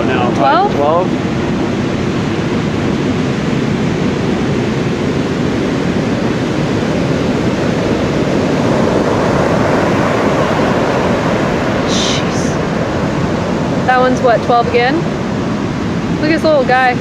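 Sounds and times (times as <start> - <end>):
waves crashing: 0.0 - 17.0.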